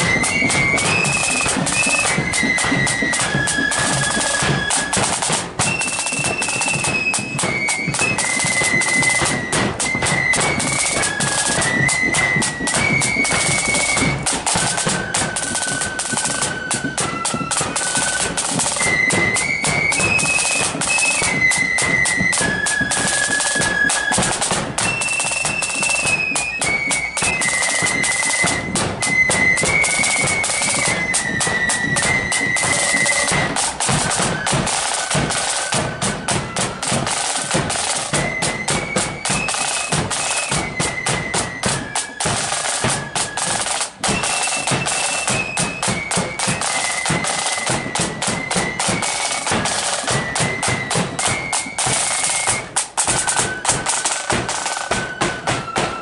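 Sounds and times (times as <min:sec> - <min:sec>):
flutes playing melody: 0:00.0 - 0:56.0
side drum rolls: 0:00.0 - 0:56.0.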